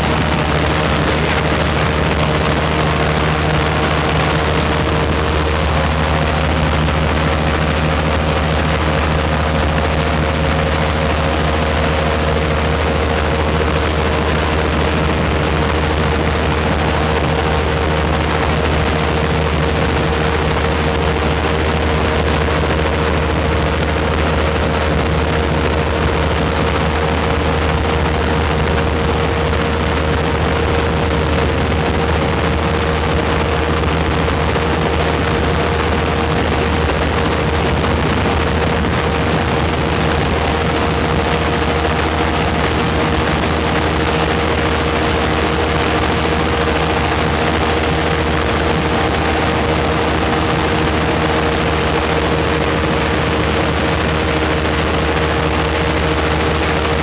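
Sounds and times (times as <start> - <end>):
airboat engine and propeller drone: 0.0 - 57.0.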